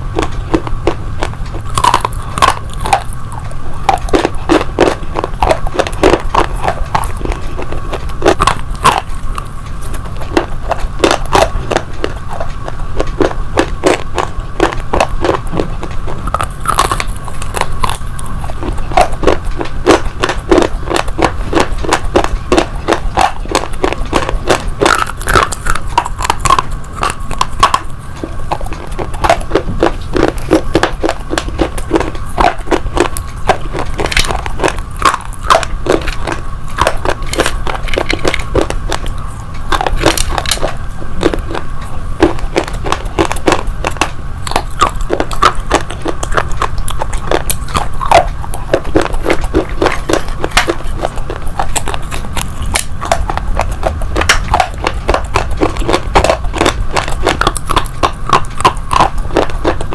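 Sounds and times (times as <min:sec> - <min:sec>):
slate being chewed crunching: 0:00.0 - 0:59.9.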